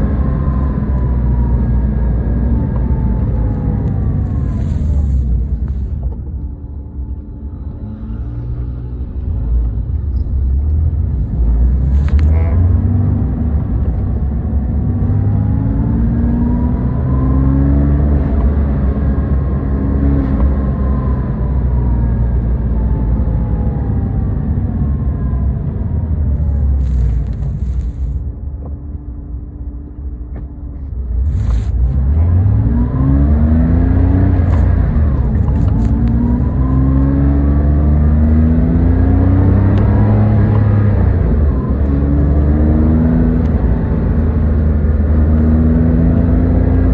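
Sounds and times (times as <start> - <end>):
car engine running: 0.0 - 7.5, 9.7 - 16.9, 17.8 - 29.8, 30.5 - 46.9.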